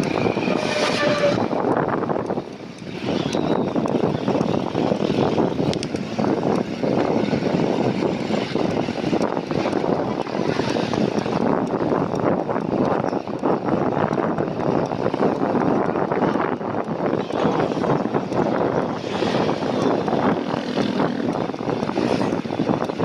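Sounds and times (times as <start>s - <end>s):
street traffic: 0.0s - 23.0s
wind on microphone: 0.0s - 23.0s.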